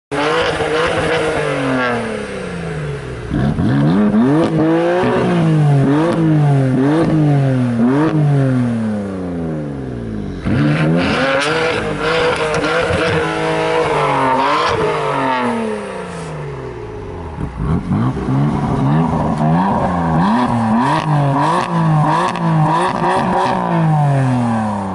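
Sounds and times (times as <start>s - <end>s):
car engine revving: 0.1s - 24.9s.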